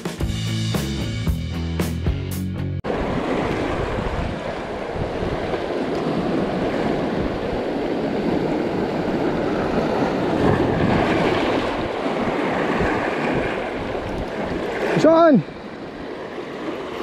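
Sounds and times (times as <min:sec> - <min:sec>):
surf breaking over rocks: 0:02.8 - 0:17.0
wind on microphone: 0:02.9 - 0:17.0.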